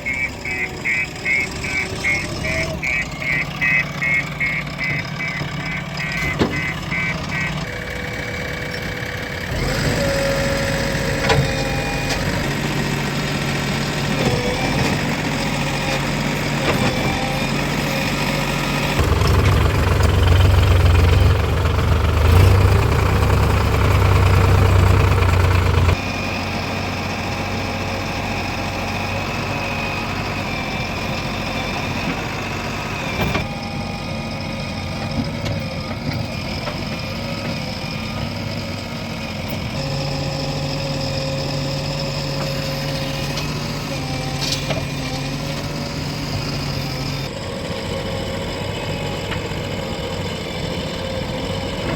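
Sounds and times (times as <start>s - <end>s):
heavy diesel engine droning: 0.0s - 51.9s.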